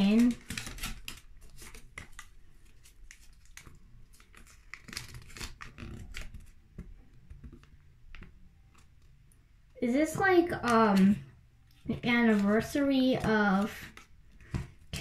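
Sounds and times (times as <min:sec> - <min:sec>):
paper rustling and crinkling: 0:00.0 - 0:09.1, 0:11.8 - 0:15.0.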